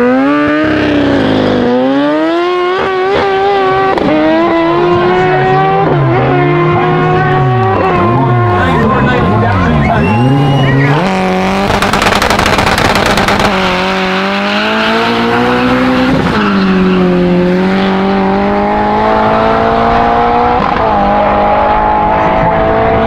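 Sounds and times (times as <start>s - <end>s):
drag car engine accelerating: 0.0s - 23.0s.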